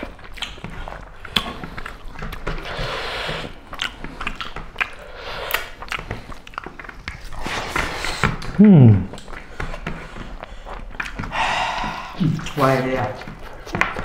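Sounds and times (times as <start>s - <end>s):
chewing and mouth smacks: 0.0s - 14.0s.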